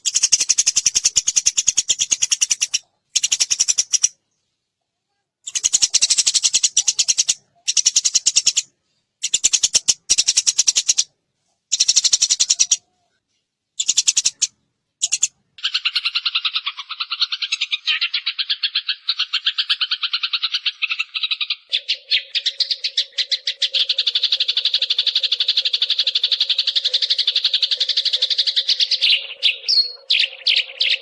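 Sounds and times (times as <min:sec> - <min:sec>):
sparrow chirping: 0:00.0 - 0:04.2, 0:05.4 - 0:11.1, 0:11.7 - 0:12.8, 0:13.8 - 0:31.0.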